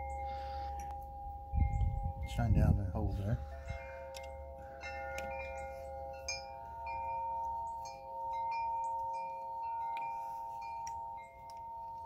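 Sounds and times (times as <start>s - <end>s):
chimes ringing: 0.0s - 12.0s.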